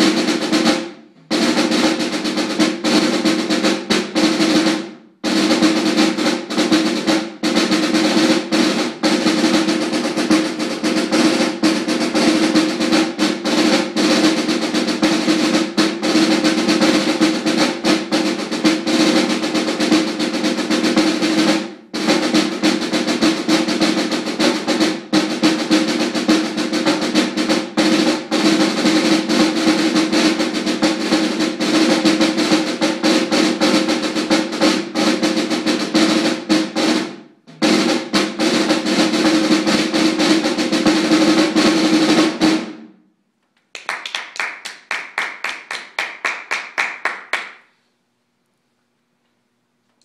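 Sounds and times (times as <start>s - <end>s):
snare drum rolls: 0.0s - 42.9s, 43.7s - 47.8s.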